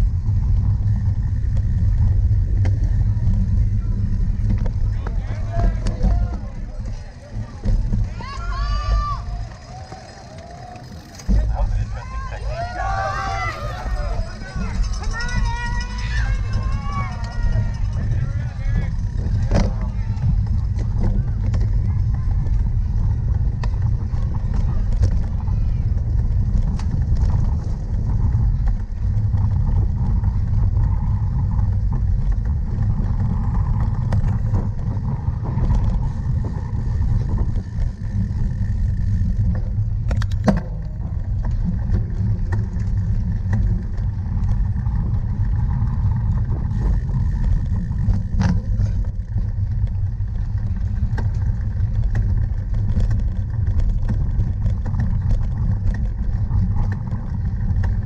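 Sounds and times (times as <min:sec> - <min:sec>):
bike rattling over rough ground: 0:00.0 - 0:58.0
wind rumbling on microphone: 0:00.0 - 0:58.0.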